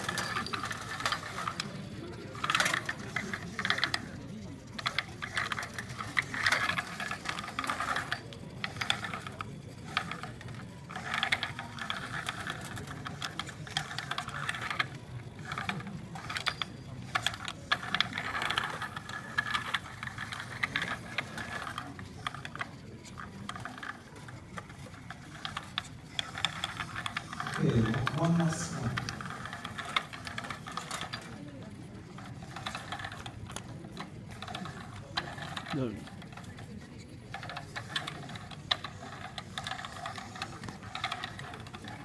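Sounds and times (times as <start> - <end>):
robot frame clicks and rattles: 0.0 - 42.0
small electric motors whirring: 0.0 - 42.0.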